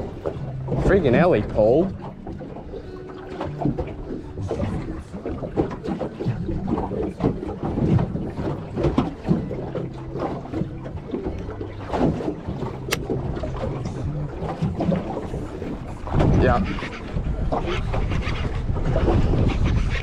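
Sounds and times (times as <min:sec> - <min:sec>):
water slapping against hull: 0:00.0 - 0:20.0
wind on microphone: 0:03.6 - 0:20.0.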